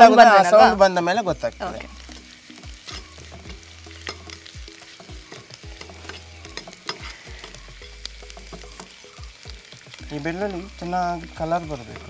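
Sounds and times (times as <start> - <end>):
garlic sizzling in hot oil: 0.0 - 12.0
oil crackling pops: 1.8 - 12.0.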